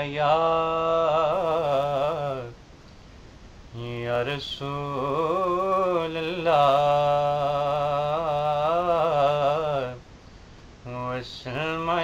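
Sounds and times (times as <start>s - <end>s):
man chanting unaccompanied: 0.0s - 2.6s, 3.7s - 10.1s, 10.8s - 12.0s.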